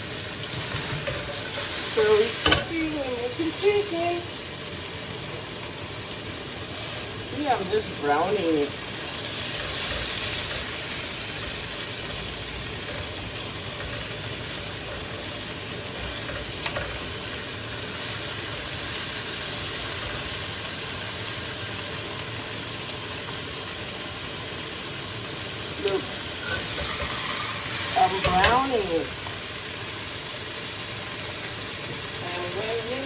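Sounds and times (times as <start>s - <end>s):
chicken sizzling in a frying pan: 0.0s - 33.0s.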